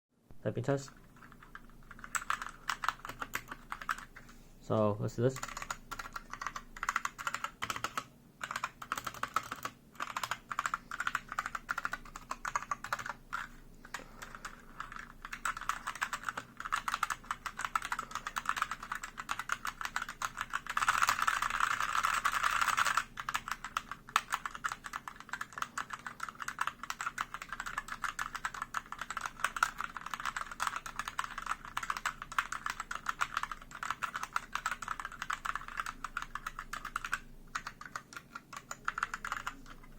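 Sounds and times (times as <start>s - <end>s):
mechanical keyboard typing: 0.8s - 4.2s, 5.3s - 39.9s.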